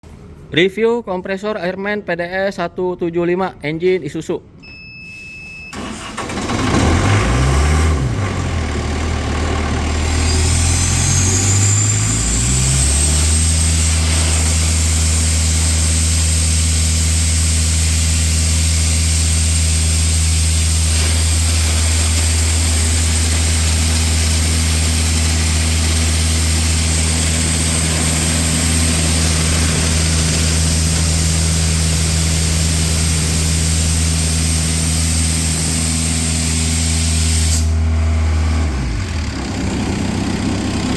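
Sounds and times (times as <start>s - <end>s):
air compressor diesel engine running: 5.7s - 40.9s.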